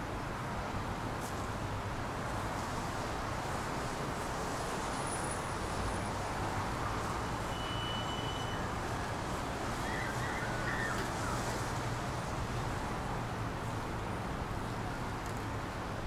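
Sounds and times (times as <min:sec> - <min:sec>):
distant road traffic hum: 0:00.0 - 0:16.0.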